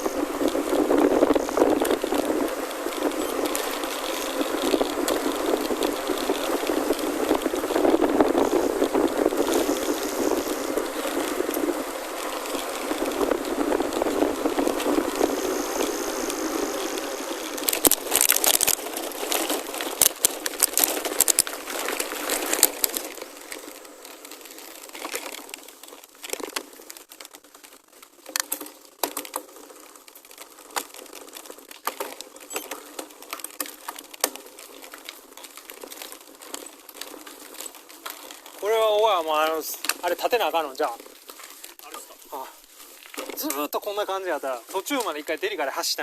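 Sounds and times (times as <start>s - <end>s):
bike tyres crunching on gravel: 0.0s - 46.0s.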